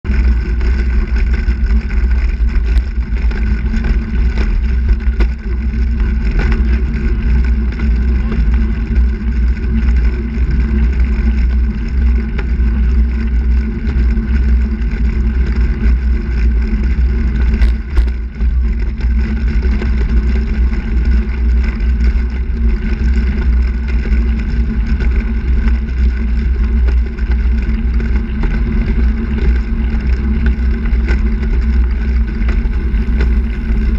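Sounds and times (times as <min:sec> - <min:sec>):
tyre noise on asphalt: 0:00.0 - 0:33.9
wind rumble on microphone: 0:00.0 - 0:33.9.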